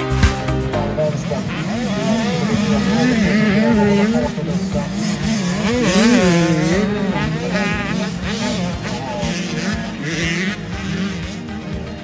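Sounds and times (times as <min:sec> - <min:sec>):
motocross bike engine revving: 0:00.0 - 0:12.0
music playing: 0:00.0 - 0:12.0.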